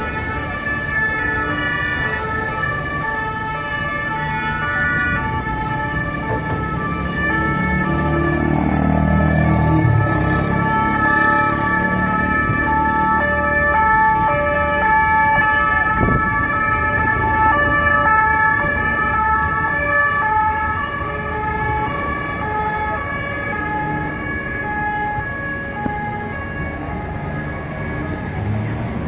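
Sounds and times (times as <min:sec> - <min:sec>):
street traffic: 0:00.0 - 0:29.0
two-tone emergency siren: 0:00.0 - 0:29.0.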